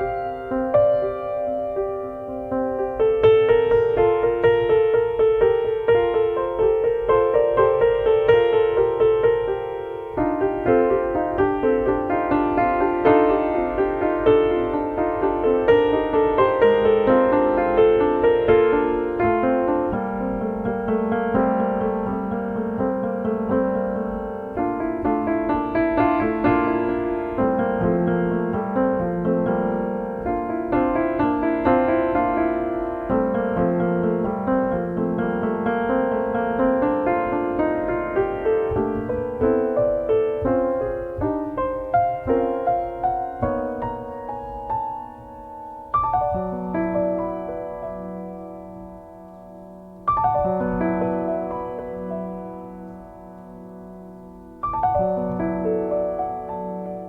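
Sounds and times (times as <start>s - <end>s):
slow solo piano piece: 0.0s - 57.0s.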